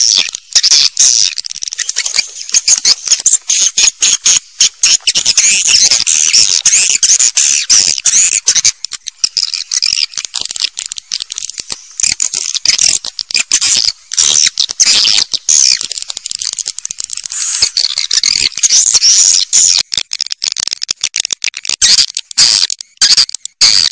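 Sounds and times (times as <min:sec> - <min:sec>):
birds clicking: 0:00.0 - 0:23.9
swiftlets twittering: 0:00.0 - 0:23.9.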